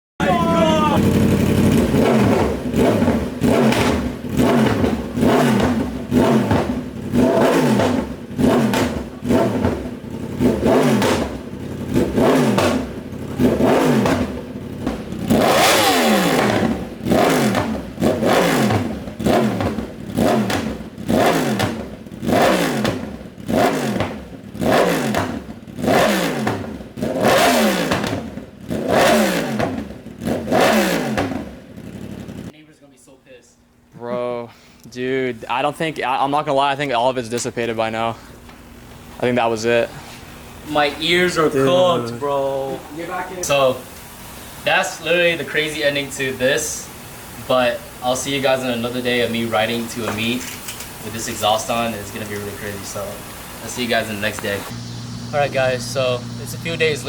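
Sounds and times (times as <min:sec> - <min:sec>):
motorcycle engine revving: 0:00.2 - 0:32.6, 0:37.3 - 0:57.0
exhaust crackles: 0:00.2 - 0:57.0.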